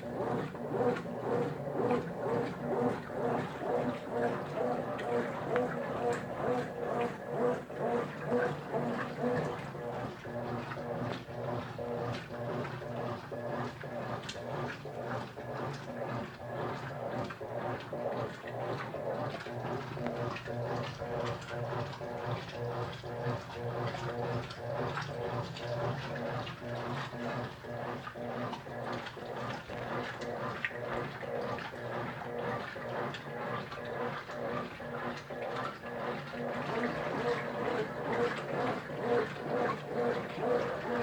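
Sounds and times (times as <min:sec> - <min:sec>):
washing machine motor hum: 0:00.0 - 0:41.0
water and clothes swishing: 0:00.0 - 0:41.0.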